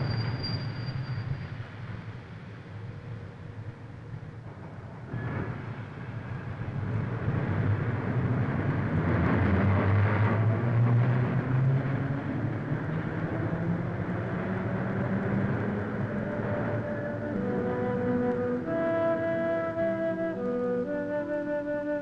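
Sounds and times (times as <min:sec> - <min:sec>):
street vehicle rumble: 0:00.0 - 0:22.0.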